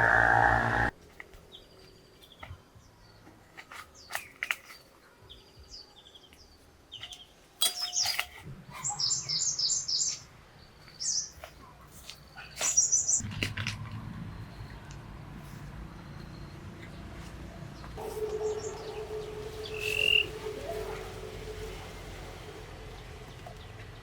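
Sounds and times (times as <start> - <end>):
birds chirping: 0.0 - 0.9, 4.0 - 13.3, 14.3 - 24.0.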